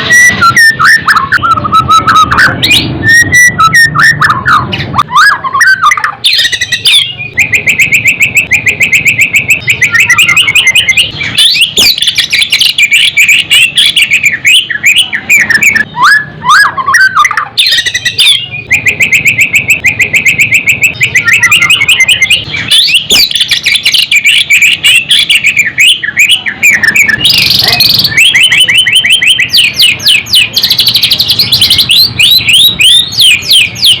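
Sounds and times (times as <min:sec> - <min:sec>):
bird singing trills and whistles: 0:00.0 - 0:34.0.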